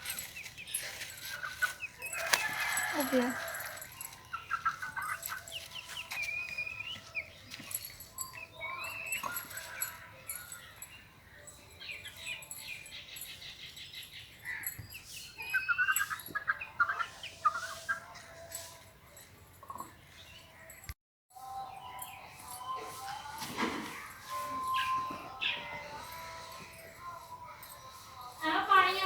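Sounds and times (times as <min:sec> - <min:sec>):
birds chirping: 0:00.0 - 0:20.9, 0:21.5 - 0:29.0.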